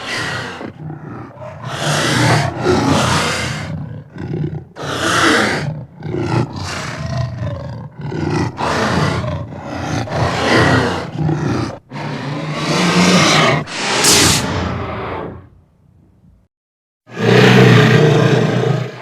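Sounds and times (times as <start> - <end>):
metallic creature roars: 0.0 - 15.5, 17.1 - 19.0.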